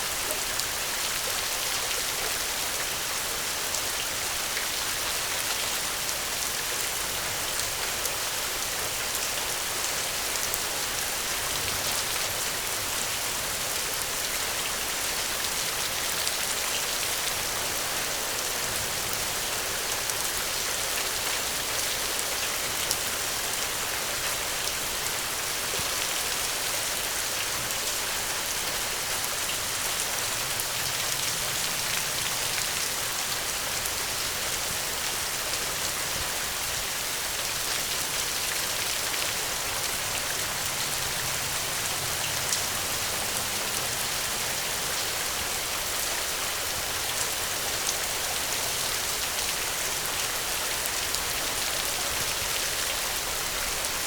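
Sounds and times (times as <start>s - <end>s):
steady rain patter: 0.0s - 54.0s.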